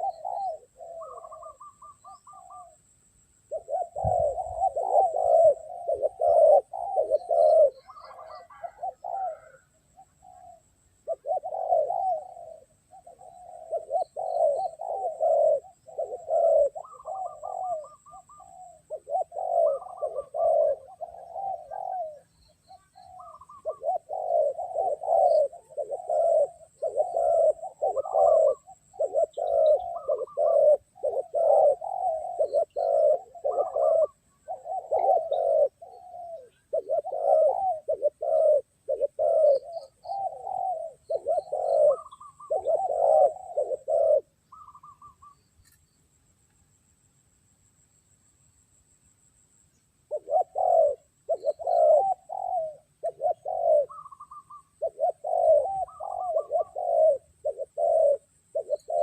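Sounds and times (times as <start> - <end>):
doves cooing: 0.0 - 45.4, 50.0 - 59.0.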